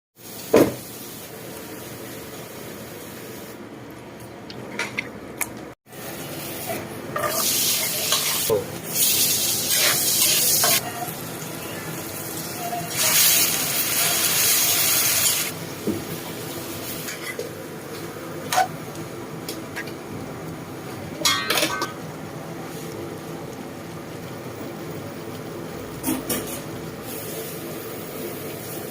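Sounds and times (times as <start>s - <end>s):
cooking hiss: 0.2s - 3.6s, 5.9s - 28.9s.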